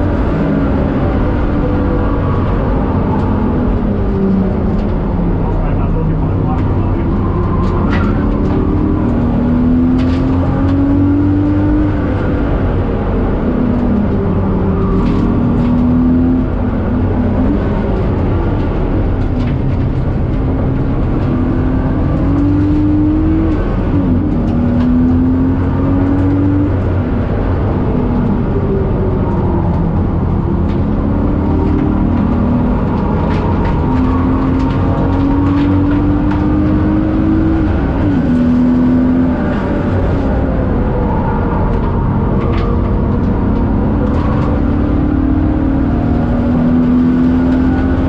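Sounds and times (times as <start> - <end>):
car engine revving at full throttle: 0.0 - 48.0
road noise: 0.0 - 48.0.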